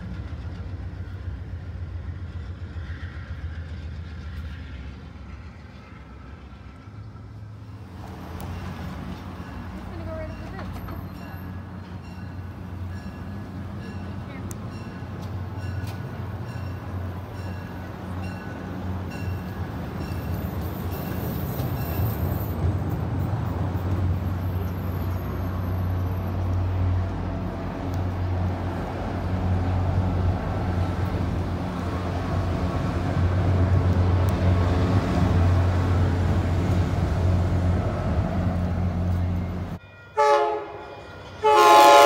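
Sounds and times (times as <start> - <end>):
diesel train passing: 0.0 - 42.0.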